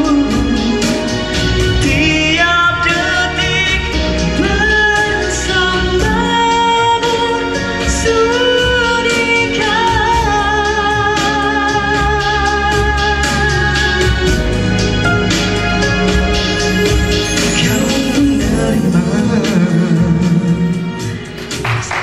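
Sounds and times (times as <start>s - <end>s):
man singing into microphone: 0.0s - 14.5s, 17.3s - 21.2s
pop backing track: 0.0s - 22.0s.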